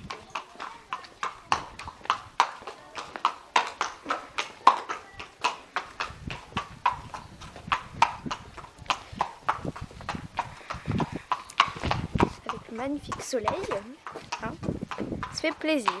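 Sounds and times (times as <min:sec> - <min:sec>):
horse hooves on concrete: 0:00.0 - 0:16.0.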